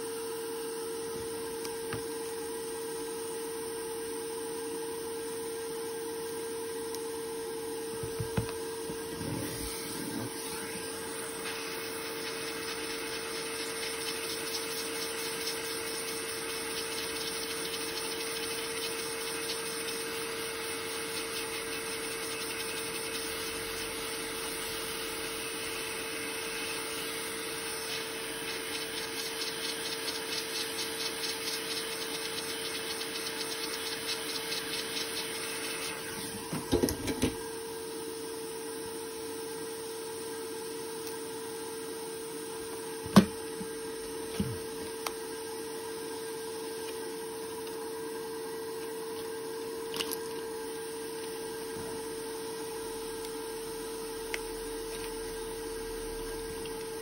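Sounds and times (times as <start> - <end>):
machine hum with hiss: 0.0 - 57.0.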